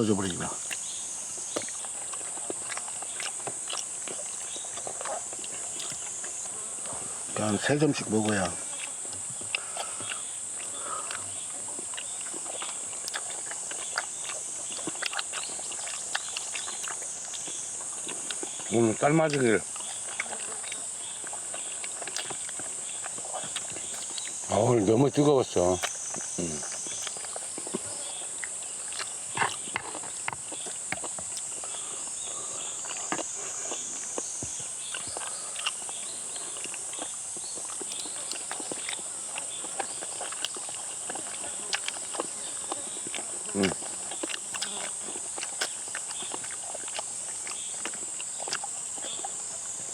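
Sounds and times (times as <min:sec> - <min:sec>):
insects droning: 0:00.0 - 0:49.9
chewing and utensil clicks: 0:01.5 - 0:06.6, 0:08.2 - 0:18.6, 0:19.2 - 0:24.4, 0:25.2 - 0:31.6, 0:32.8 - 0:49.4.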